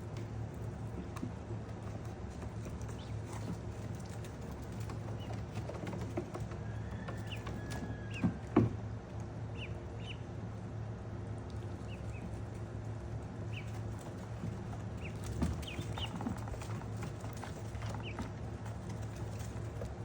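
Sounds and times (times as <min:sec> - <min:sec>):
steady low hum: 0:00.0 - 0:20.0
ducklings peeping: 0:00.5 - 0:10.6, 0:11.4 - 0:19.8.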